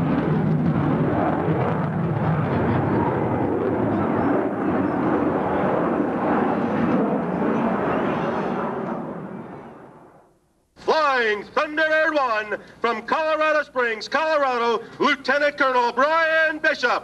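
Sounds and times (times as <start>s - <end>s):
jet fighter flying overhead: 0.0s - 17.0s.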